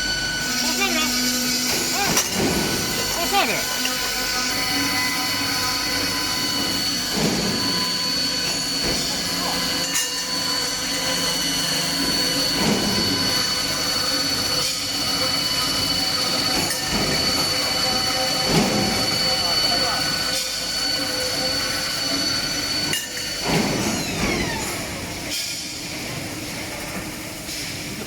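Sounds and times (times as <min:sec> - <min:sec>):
circular saw cutting steel pipe: 0:00.0 - 0:25.7.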